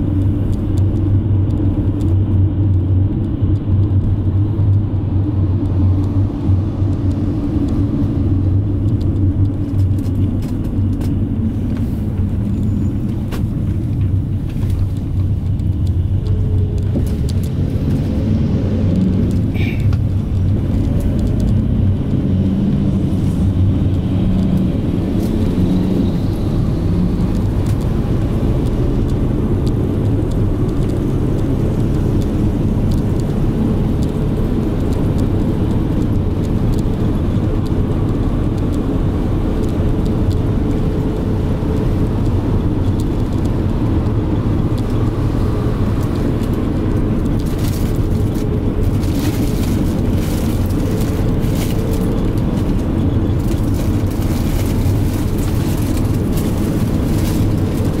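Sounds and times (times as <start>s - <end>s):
vehicle engine and tyres rumbling: 0.0s - 58.0s.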